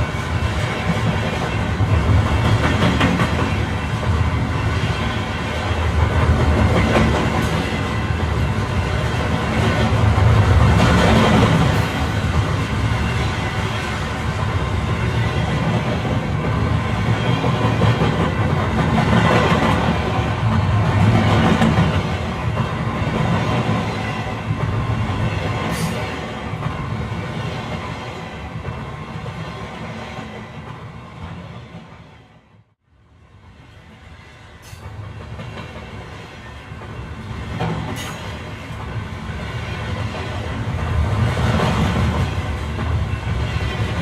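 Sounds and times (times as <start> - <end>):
train rumble from on board: 0.0 - 44.0.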